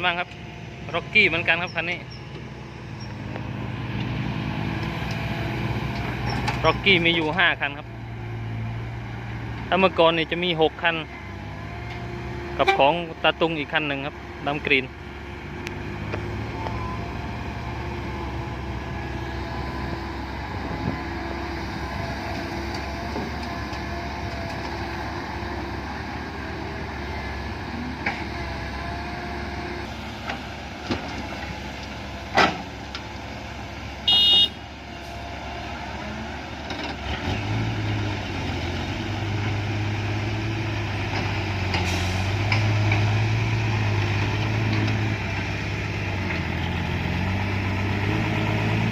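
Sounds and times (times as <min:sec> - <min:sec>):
deep truck engine nearby: 0:00.0 - 0:48.9
diesel truck engines running: 0:00.0 - 0:48.9.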